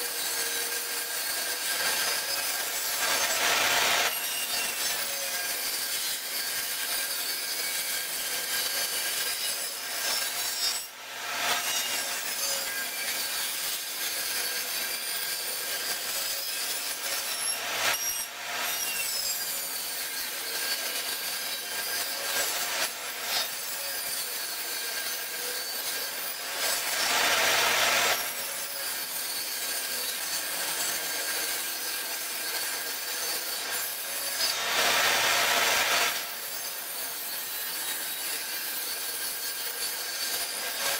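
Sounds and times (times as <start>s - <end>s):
table saw whine: 0.0s - 40.9s
wood scraping on saw blade: 0.0s - 40.9s.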